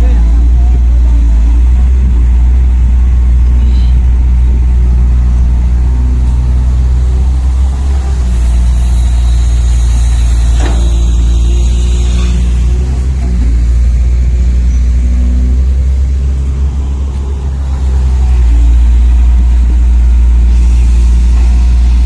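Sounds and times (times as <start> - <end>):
low engine-like drone: 0.0 - 22.0.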